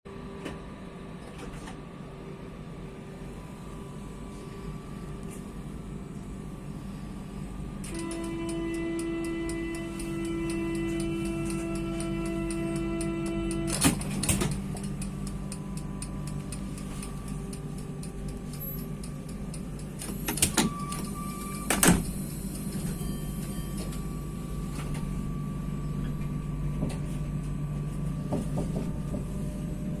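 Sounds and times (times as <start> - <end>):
electric train humming: 1.9 - 30.0.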